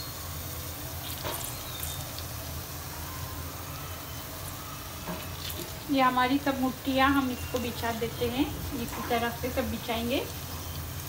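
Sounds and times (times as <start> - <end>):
onions sizzling in pot: 0.0 - 11.0.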